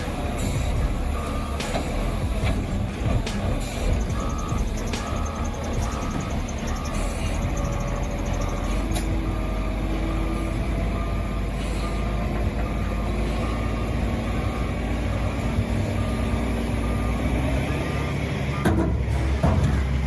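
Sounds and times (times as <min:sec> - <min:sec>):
reversing alarm beeping: 0:00.0 - 0:19.4
diesel engine rumbling: 0:00.0 - 0:20.0.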